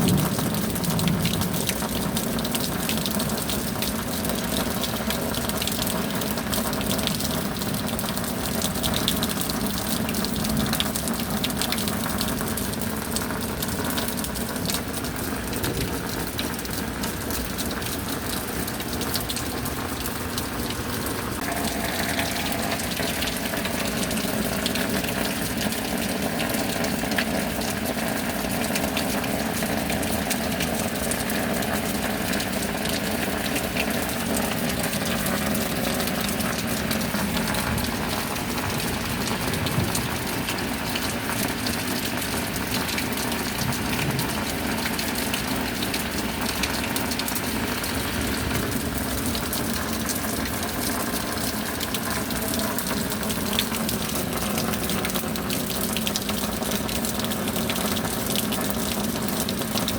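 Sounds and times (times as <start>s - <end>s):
heavy rain pouring: 0.0s - 59.9s
water gushing and running: 0.0s - 59.9s.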